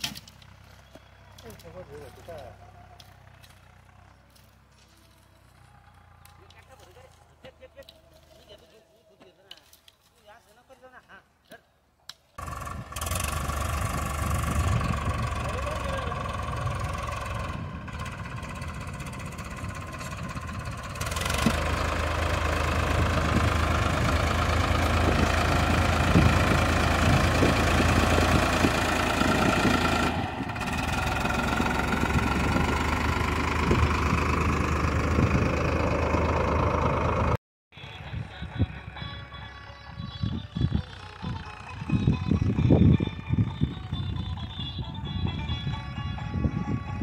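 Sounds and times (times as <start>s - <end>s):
tractor engine running: 0.0s - 8.7s, 12.4s - 47.0s.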